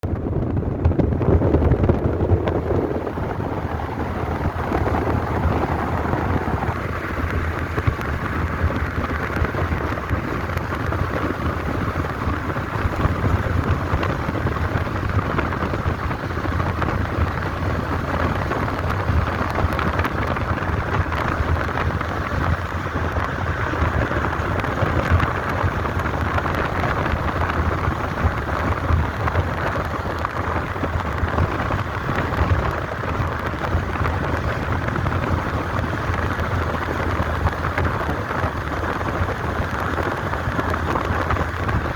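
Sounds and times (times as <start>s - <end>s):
deep low rumble: 0.0s - 41.9s
wind buffeting microphone: 0.0s - 41.9s.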